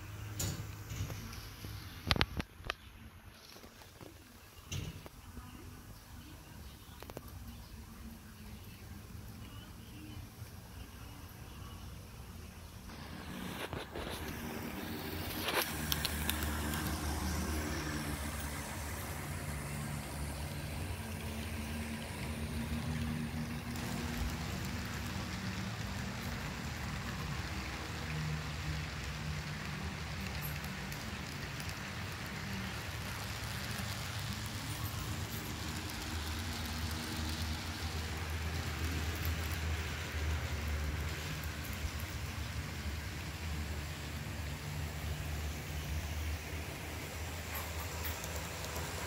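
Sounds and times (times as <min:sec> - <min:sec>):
model train rumbling on rails: 0:04.2 - 0:49.0.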